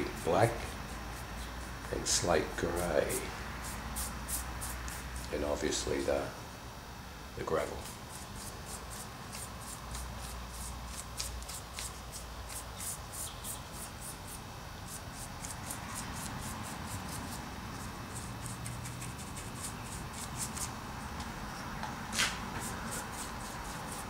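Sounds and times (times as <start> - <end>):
paintbrush bristles scratching: 0.0 - 6.1, 7.6 - 20.8, 22.6 - 24.0.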